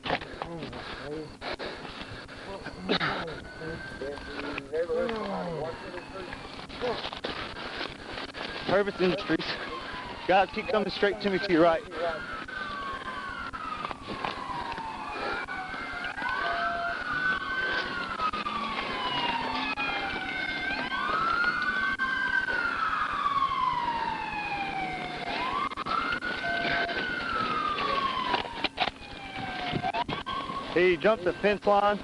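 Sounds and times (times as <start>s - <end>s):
police sirens wailing: 0.0s - 32.0s.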